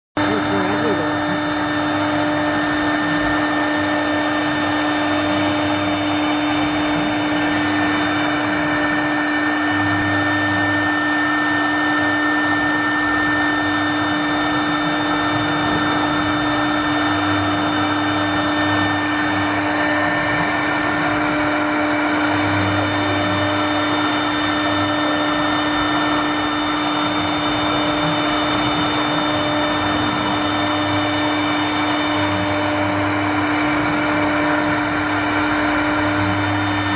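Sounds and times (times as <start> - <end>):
low motor hum: 0.2 - 36.9
router spindle whine: 0.2 - 36.9.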